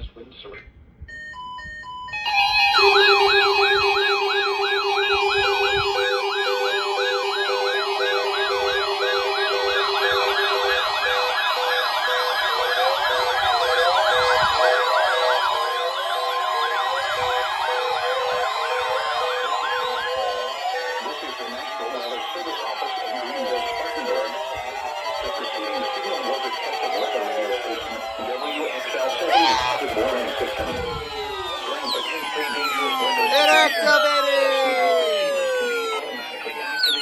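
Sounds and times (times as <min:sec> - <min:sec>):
steady alarm tone: 0:01.1 - 0:37.0
warbling siren sweeps: 0:01.1 - 0:37.0.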